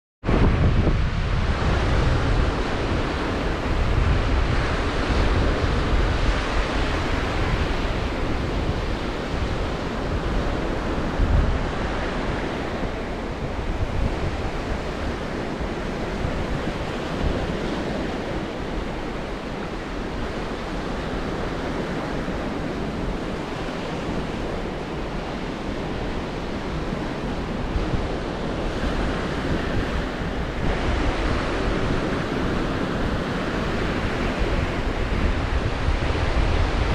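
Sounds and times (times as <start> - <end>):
wind buffeting microphone: 0.2 - 36.9
surf washing onto shore: 0.3 - 36.9.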